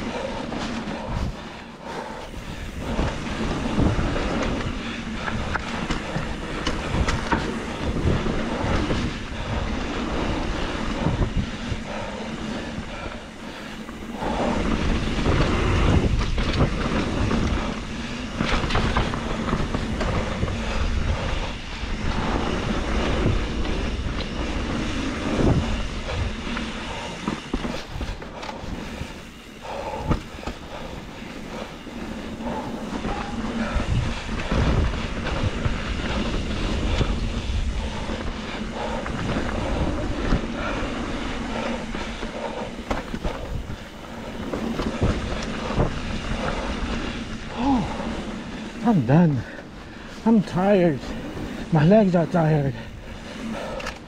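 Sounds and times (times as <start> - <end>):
bike knocking and rattling: 0.0 - 54.0
bike tyres rolling on dirt: 0.0 - 54.0.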